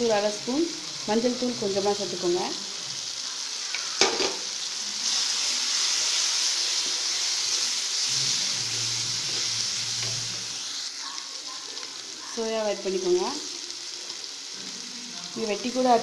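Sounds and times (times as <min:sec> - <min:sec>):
masala sizzling in hot oil: 0:00.0 - 0:16.0
spatula stirring in a pan: 0:01.4 - 0:14.9.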